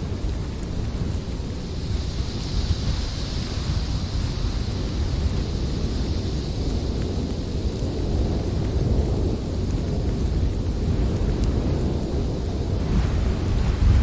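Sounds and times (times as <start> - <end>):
strong wind blowing: 0.0 - 14.0.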